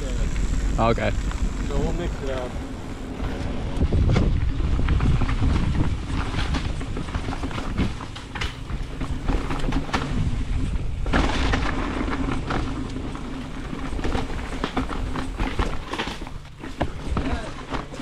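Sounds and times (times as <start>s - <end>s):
bike rattling over bumps: 0.0s - 18.0s
tyres rumbling on dirt: 0.0s - 18.0s.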